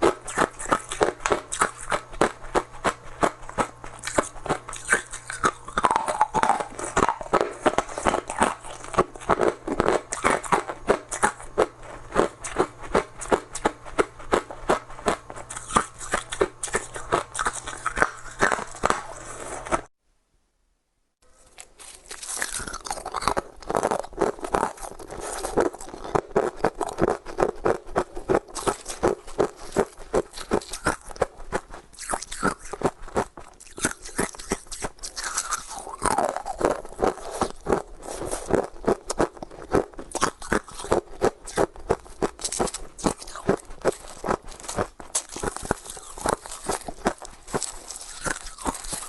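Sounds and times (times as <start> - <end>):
ice cubes crunched between teeth: 0.0 - 19.4, 21.4 - 49.0.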